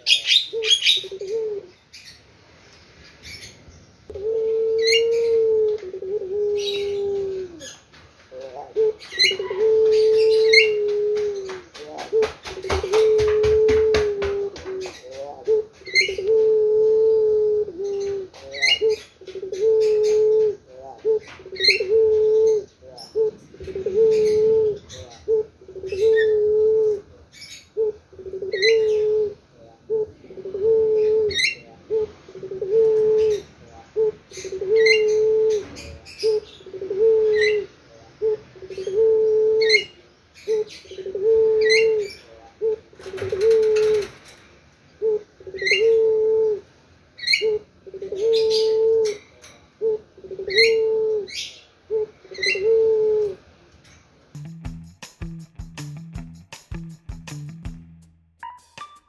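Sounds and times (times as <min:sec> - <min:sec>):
dove cooing: 0:00.0 - 0:01.8, 0:04.1 - 0:44.3, 0:44.9 - 0:53.5.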